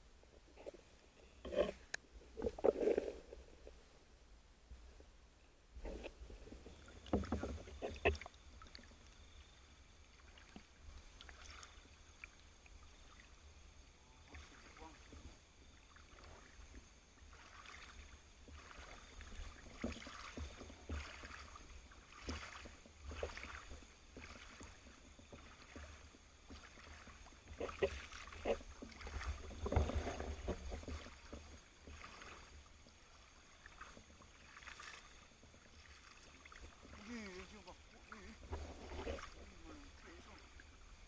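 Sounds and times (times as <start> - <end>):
underwater low rumble: 0.0 - 41.0
swishes of moving water: 5.8 - 41.0.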